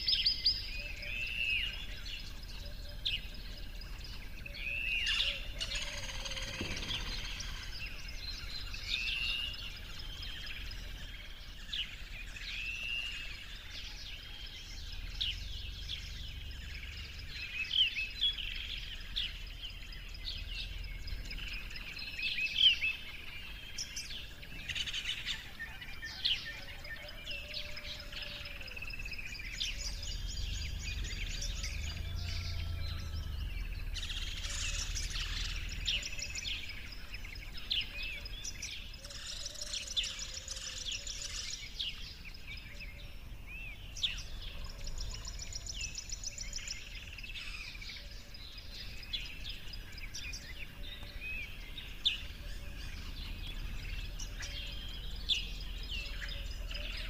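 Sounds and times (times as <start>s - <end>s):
small birds chirping: 0.0s - 57.0s
low steady rumble: 0.1s - 57.0s.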